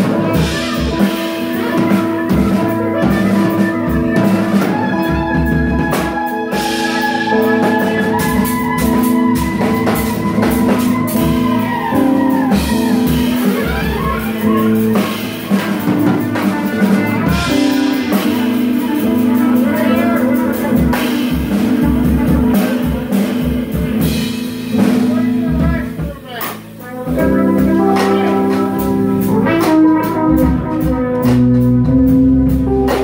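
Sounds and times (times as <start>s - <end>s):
drum kit with cymbals: 0.0s - 33.0s
guitar: 0.0s - 33.0s
trumpet: 0.0s - 33.0s.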